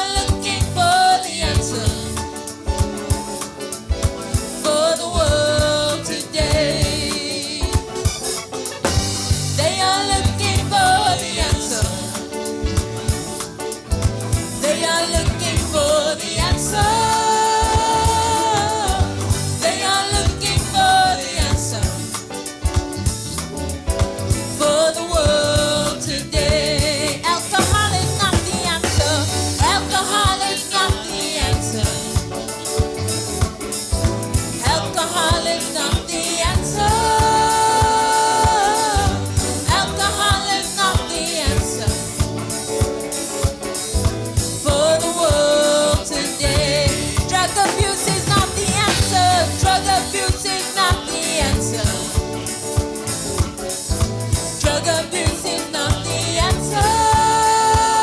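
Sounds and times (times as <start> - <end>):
bass line: 0.0 - 3.3, 5.2 - 8.1, 8.8 - 43.0, 44.0 - 45.4, 46.0 - 50.5, 51.4 - 55.2, 55.9 - 58.0
band playing: 0.0 - 58.0
drum kit beat: 0.0 - 58.0
person singing gospel: 0.0 - 58.0.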